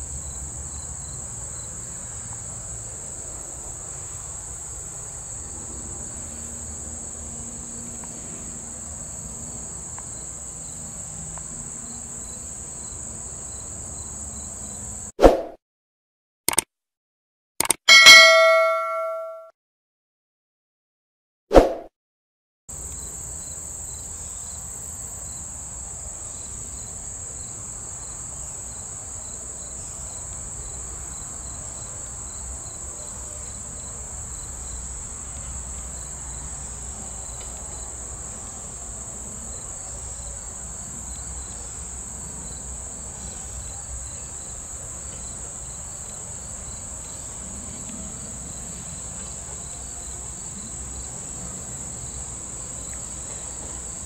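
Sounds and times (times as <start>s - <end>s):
insects buzzing: 0.0s - 15.1s, 22.7s - 54.0s.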